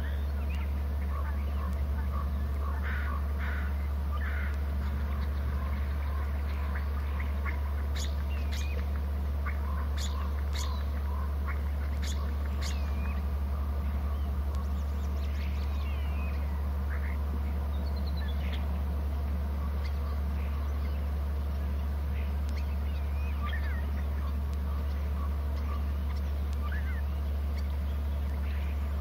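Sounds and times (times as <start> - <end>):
birds chirping: 0.0 - 29.0
loud low hum: 0.0 - 29.0.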